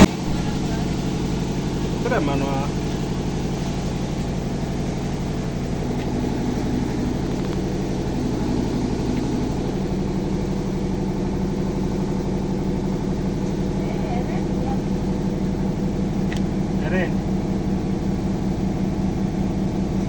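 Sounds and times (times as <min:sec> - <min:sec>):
motor engine running steadily: 0:00.0 - 0:20.0.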